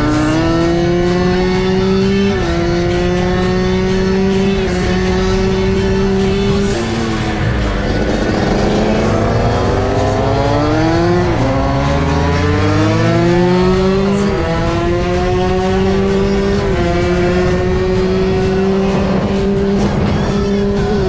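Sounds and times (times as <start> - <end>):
moped engine accelerating: 0.0 - 21.0.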